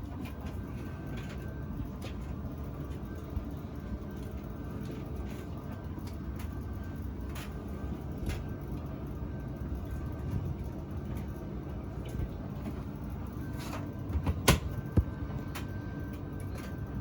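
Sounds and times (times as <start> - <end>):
tumble dryer humming: 0.0 - 17.0.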